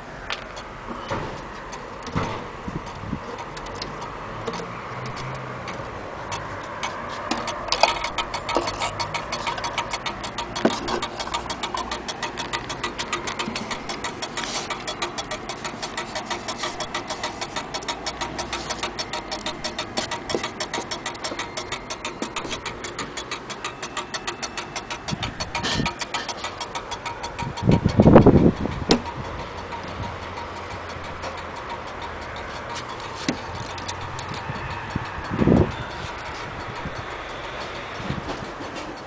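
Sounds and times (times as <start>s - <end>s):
wall clock ticking: 0.0s - 39.0s.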